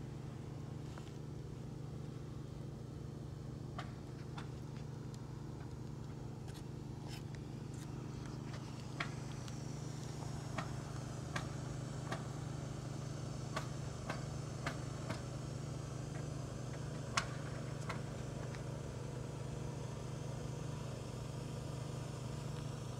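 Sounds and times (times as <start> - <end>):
engine humming: 0.0 - 22.9.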